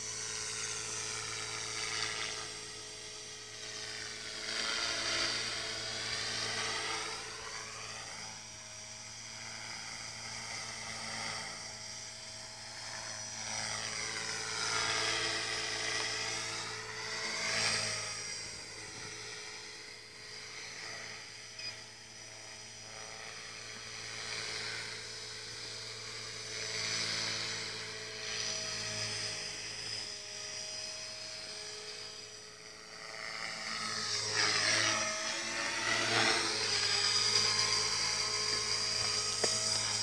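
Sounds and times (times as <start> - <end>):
rc helicopter motor and rotor whine: 0.0 - 40.0.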